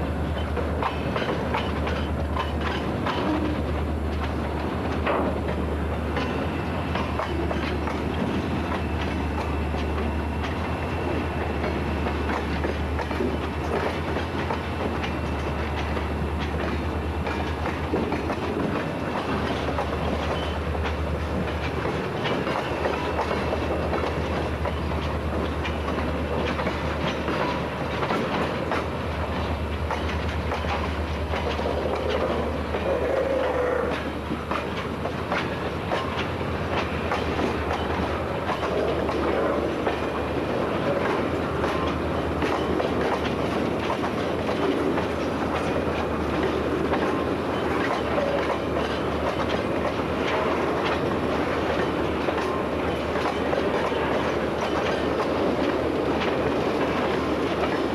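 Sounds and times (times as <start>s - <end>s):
train clicking and rattling: 0.0s - 57.9s.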